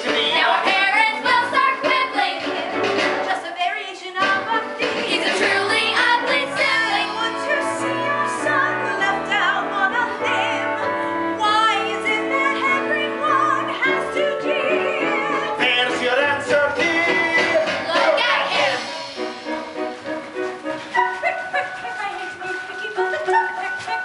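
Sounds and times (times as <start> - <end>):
voices singing with vibrato: 0.0 - 20.0.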